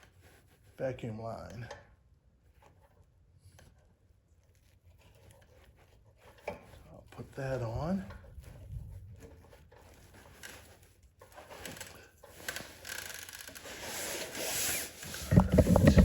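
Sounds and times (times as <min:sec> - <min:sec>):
rubber hose rubbing and scraping: 0:00.0 - 0:01.6, 0:02.4 - 0:16.0.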